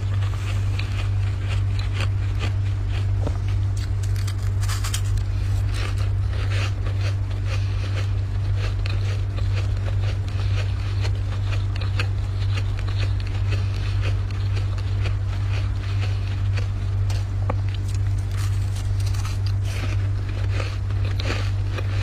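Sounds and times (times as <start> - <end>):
frost being scraped by hand: 0.0 - 22.0
low hum: 0.0 - 22.0.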